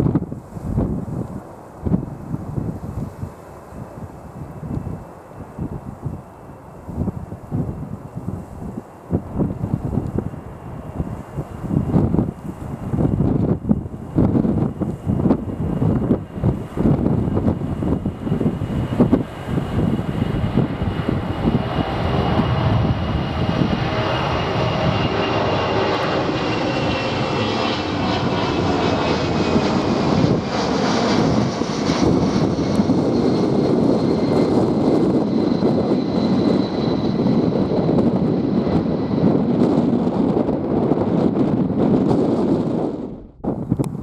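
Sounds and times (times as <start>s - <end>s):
loud jet engine noise: 0.0s - 44.0s.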